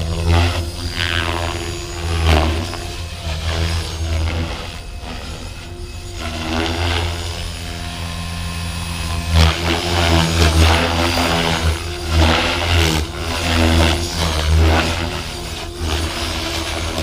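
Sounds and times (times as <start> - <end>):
rc helicopter motor hum: 0.0 - 17.0.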